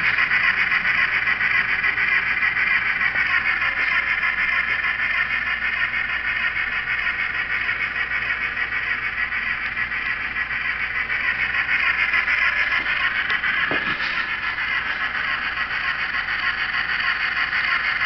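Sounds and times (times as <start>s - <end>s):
model train motors whirring: 0.0s - 18.0s.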